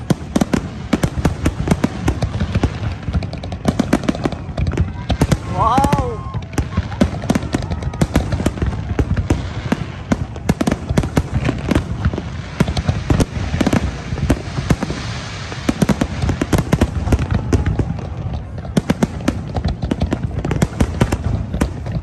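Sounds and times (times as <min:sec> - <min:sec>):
fireworks bursting: 0:00.0 - 0:22.0
fireworks crackling hiss: 0:00.0 - 0:22.0.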